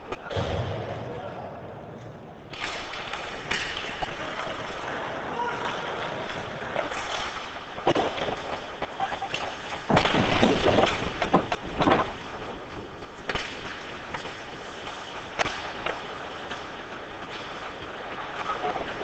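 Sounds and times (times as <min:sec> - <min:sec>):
hockey sticks clacking: 0:00.0 - 0:00.3, 0:02.0 - 0:19.0
skates scraping on ice: 0:02.5 - 0:19.0.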